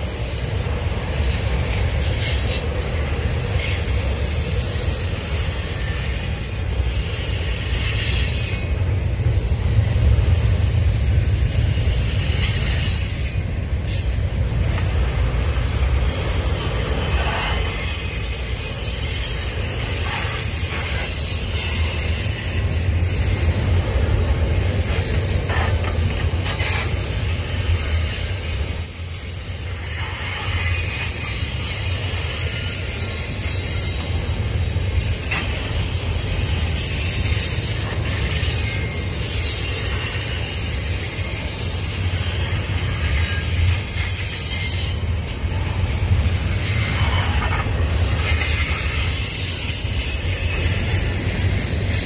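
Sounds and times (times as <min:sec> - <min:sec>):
hissing wash of noise: 0:00.0 - 0:52.0
train wheels rumbling on track: 0:00.0 - 0:52.0.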